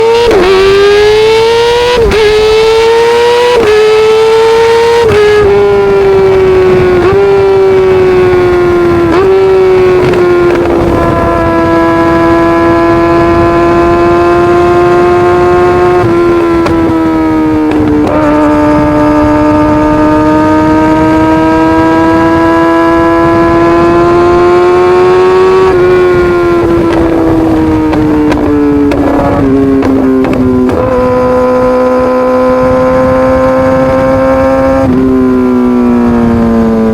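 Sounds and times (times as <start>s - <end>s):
motorcycle engine at high revs: 0.0s - 36.9s.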